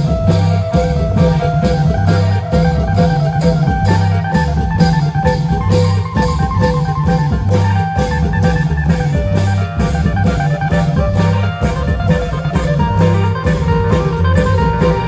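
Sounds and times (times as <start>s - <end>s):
deep drum beat: 0.0s - 15.0s
plucked string melody: 0.0s - 15.0s.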